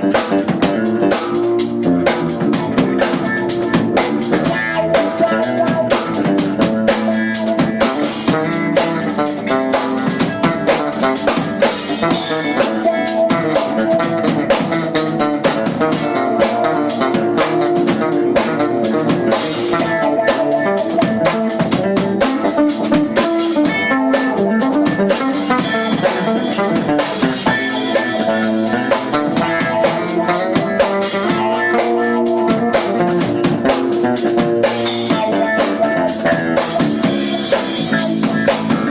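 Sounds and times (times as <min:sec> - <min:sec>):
drum kit with rimshots: 0:00.0 - 0:38.9
electric bass: 0:00.0 - 0:38.9
electric guitar: 0:00.0 - 0:38.9
keyboards: 0:00.0 - 0:38.9.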